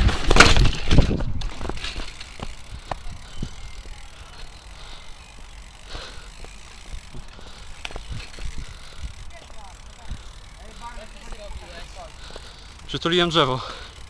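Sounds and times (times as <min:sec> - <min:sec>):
bike knocking and rattling: 0:00.0 - 0:14.0.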